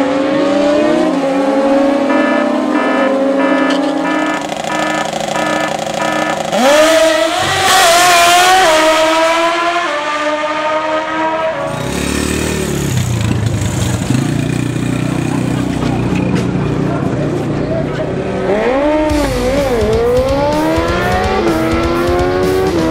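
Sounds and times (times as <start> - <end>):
motorcycle engines revving: 0.0 - 22.9.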